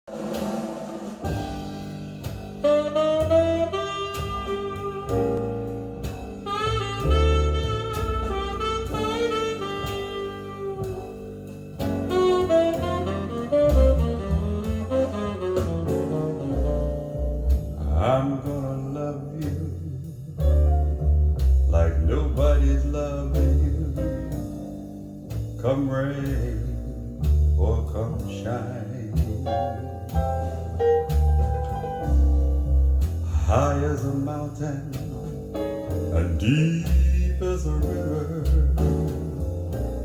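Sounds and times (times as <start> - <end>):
light drums: 0.0 - 40.0
jazz ballad melody instrument: 0.1 - 40.0
walking bass line: 1.4 - 40.0.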